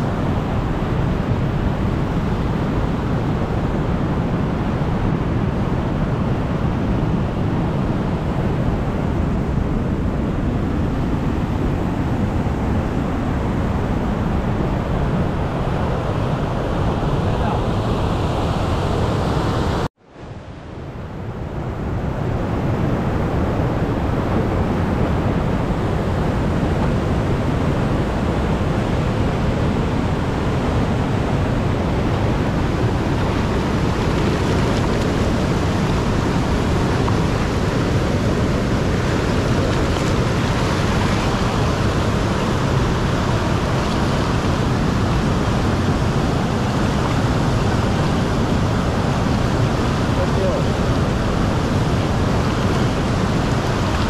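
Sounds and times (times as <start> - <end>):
river rushing over rocks: 0.0 - 19.9, 20.6 - 54.0.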